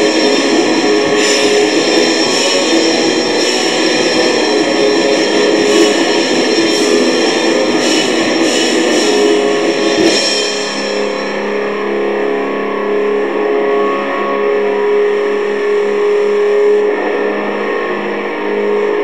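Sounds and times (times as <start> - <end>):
distorted electric guitar droning: 0.0 - 19.0.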